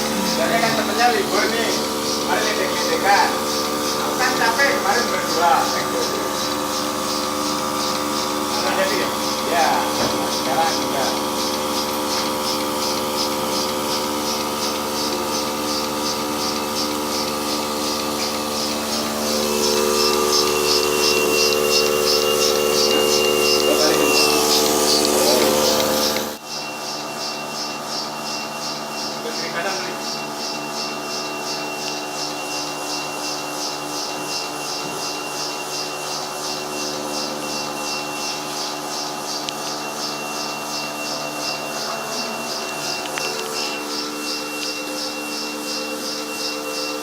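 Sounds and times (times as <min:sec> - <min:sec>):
pulsator rhythmic hissing: 0:00.0 - 0:47.0
vacuum pump motor humming: 0:00.0 - 0:47.0.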